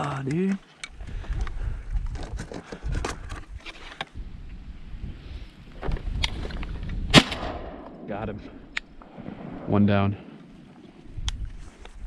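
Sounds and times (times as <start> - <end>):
wind buffeting microphone: 0.9 - 12.0.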